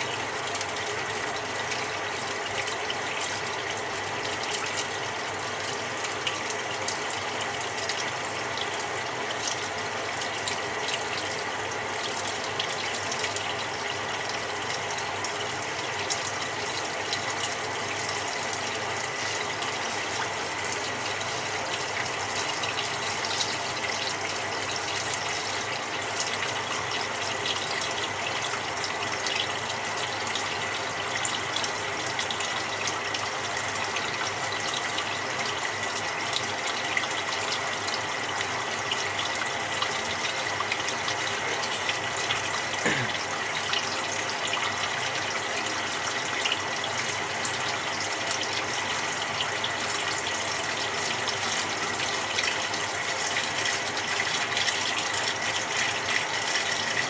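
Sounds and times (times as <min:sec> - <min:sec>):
washing machine filling with water: 0:00.0 - 0:57.0.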